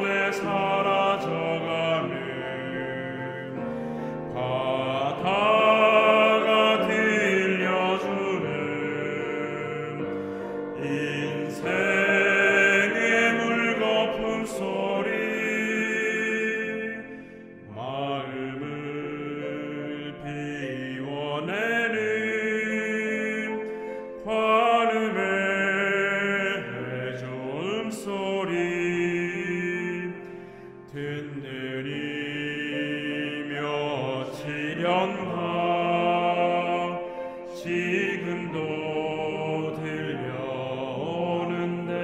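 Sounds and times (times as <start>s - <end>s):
men's choir singing a hymn: 0.0s - 42.0s.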